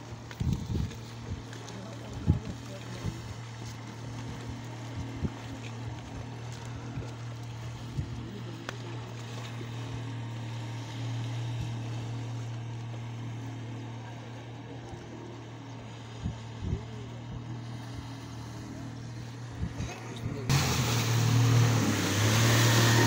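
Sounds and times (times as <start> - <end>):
outboard engine running: 0.0 - 23.0.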